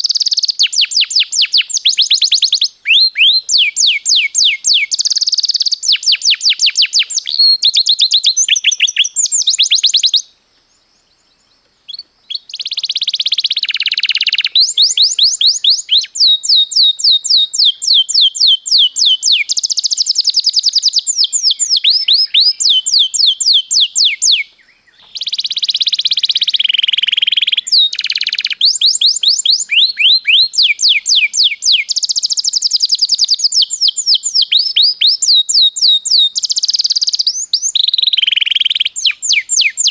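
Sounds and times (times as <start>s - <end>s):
canary singing trills: 0.0s - 10.3s, 11.0s - 39.9s.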